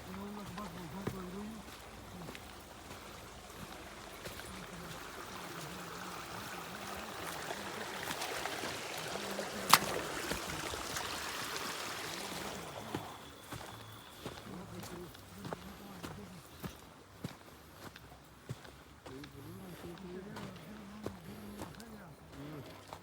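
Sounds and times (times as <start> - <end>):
creek water running and trickling: 0.0 - 23.0.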